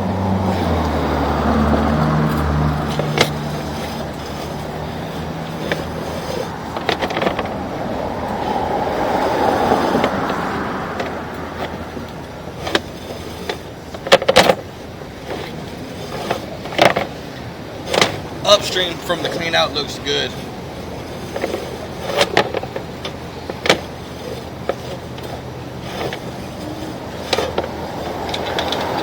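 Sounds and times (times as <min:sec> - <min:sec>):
street traffic going by: 0:00.0 - 0:29.0.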